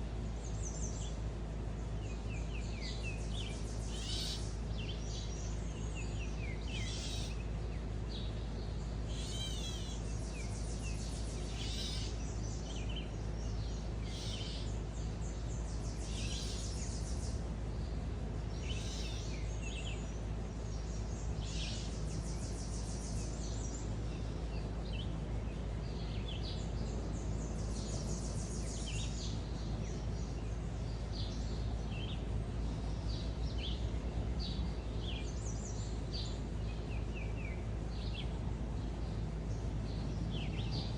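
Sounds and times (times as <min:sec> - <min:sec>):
low background rumble: 0:00.0 - 0:40.9
songbirds chirping and trilling: 0:00.0 - 0:40.9.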